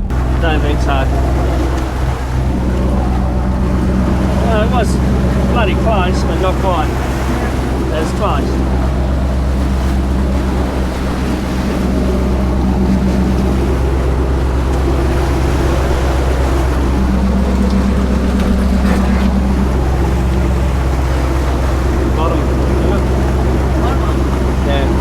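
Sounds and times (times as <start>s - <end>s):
boat motor running: 0.0s - 25.0s
water noise: 0.0s - 25.0s.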